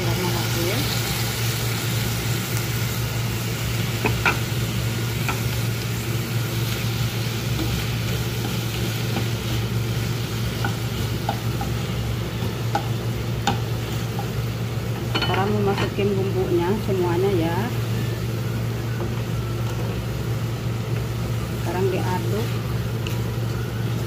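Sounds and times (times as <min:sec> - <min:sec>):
shrimp sizzling in hot oil: 0:00.0 - 0:24.0.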